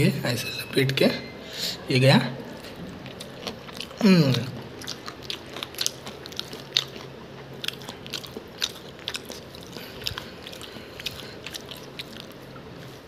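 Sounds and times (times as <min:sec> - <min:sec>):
person chewing and biting: 0:02.5 - 0:13.0.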